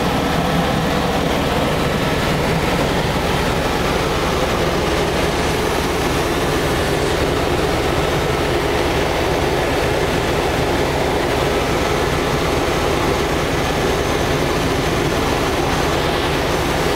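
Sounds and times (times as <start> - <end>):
helicopter engine and rotor drone: 0.0 - 16.9.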